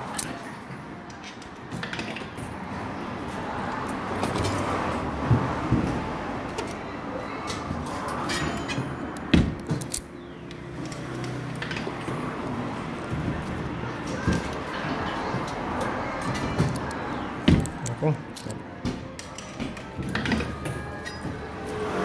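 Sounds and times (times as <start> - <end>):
distant chatter: 0.0 - 22.0.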